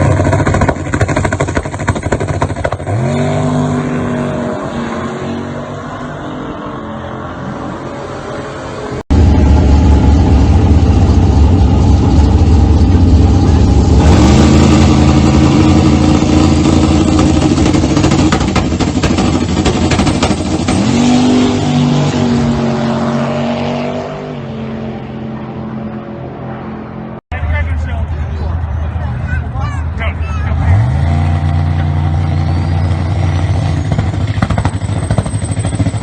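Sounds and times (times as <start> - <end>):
car engine under hard throttle: 0.0 - 27.2, 30.2 - 36.0.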